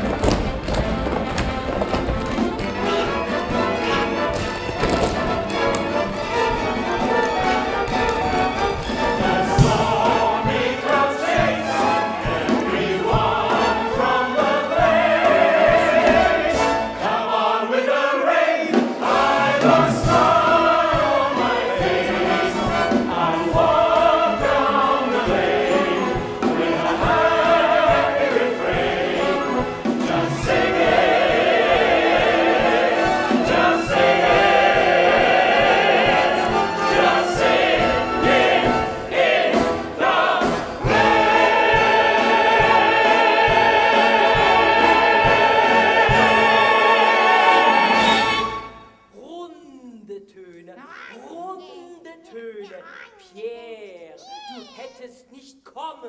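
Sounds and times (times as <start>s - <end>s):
orchestra playing: 0.0s - 17.4s, 19.0s - 49.2s
ensemble singing in chorus: 0.0s - 49.1s.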